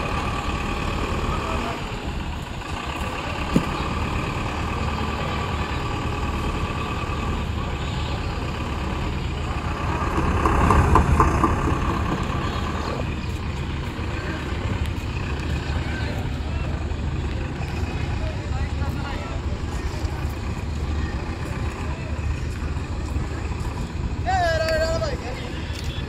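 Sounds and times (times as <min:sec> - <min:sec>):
truck engines running: 0:00.0 - 0:26.0.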